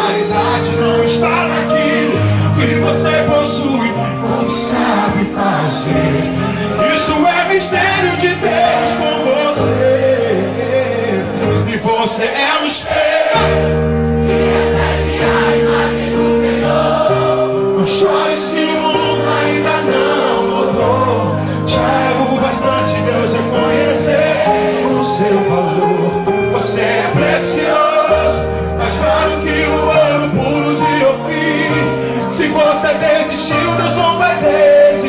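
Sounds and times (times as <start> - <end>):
voices singing: 0.0 - 11.3, 12.0 - 35.0
keyboard chords: 0.0 - 35.0.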